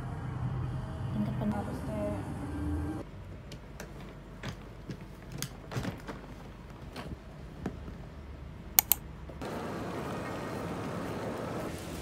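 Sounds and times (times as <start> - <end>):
steady background hum: 0.0 - 11.7.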